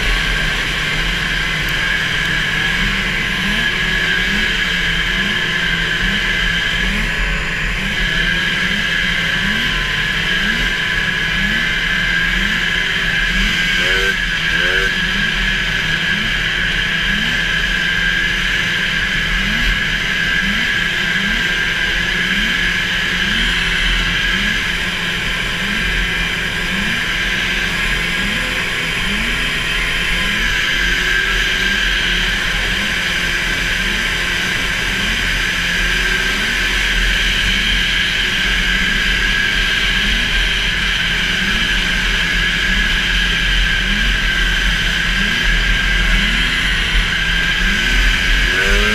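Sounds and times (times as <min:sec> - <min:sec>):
snowmobile engine at high revs: 0:00.0 - 0:48.9.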